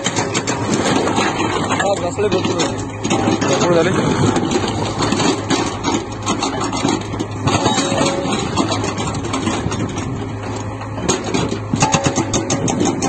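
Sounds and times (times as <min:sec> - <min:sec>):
diesel engine humming: 0:00.0 - 0:13.0
hydraulic breaker hammering rock: 0:00.0 - 0:13.0.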